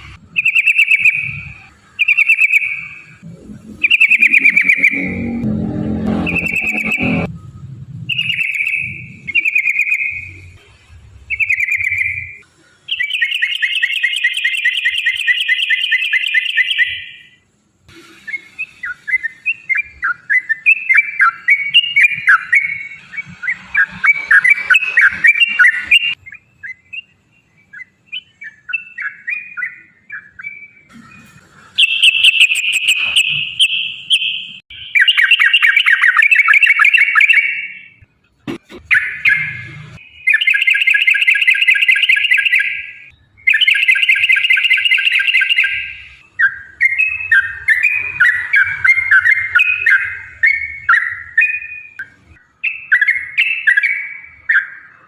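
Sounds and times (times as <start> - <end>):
bird singing and trilling: 0.1 - 7.3, 8.0 - 10.6, 11.2 - 17.4, 18.2 - 38.1, 38.8 - 55.0.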